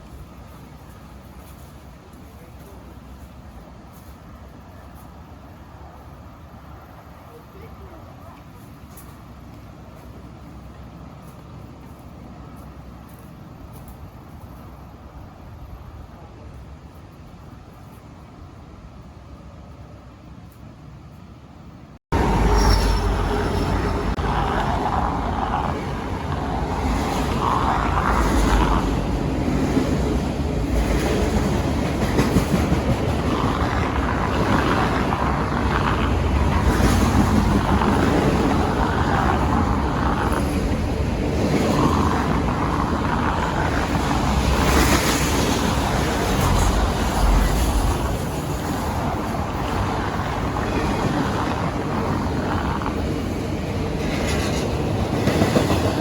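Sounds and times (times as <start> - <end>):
train rolling past: 0.0 - 56.0.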